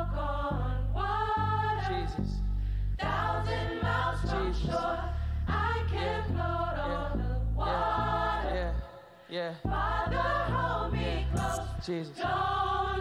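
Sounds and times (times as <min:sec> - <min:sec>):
deep sustained bass: 0:00.0 - 0:08.8, 0:09.7 - 0:11.9
gospel choir singing: 0:00.0 - 0:13.0.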